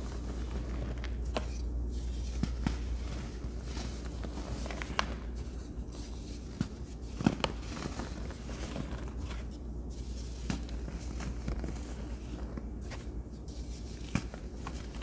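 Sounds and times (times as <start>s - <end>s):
low steady hum: 0.0s - 15.0s
powder rustling: 0.0s - 15.0s.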